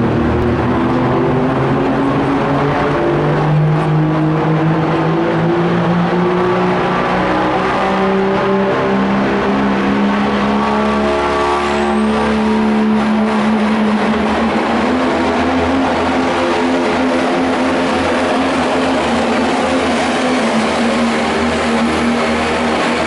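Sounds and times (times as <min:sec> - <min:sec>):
diesel engine droning under load: 0:00.0 - 0:23.0.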